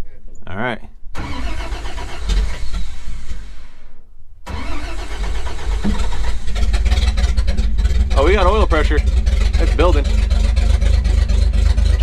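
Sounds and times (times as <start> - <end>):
truck engine starting and running: 1.1 - 12.0.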